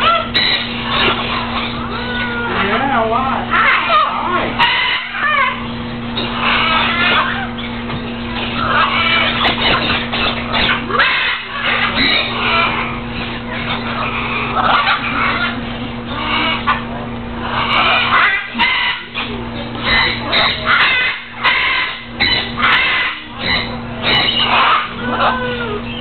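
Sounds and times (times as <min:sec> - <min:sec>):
parrots squawking: 0:00.0 - 0:26.0
steady low hum: 0:00.0 - 0:26.0.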